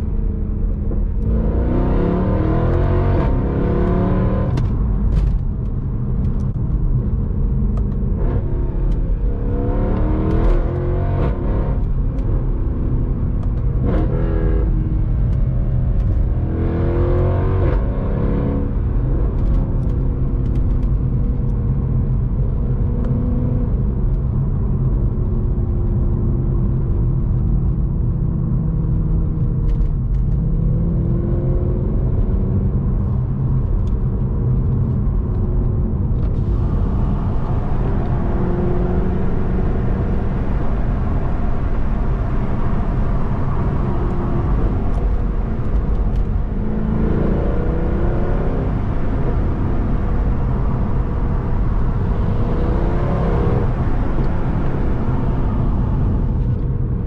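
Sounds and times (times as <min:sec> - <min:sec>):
car engine revving through gears: 0:00.2 - 0:06.5, 0:07.5 - 0:23.9, 0:28.4 - 0:56.9.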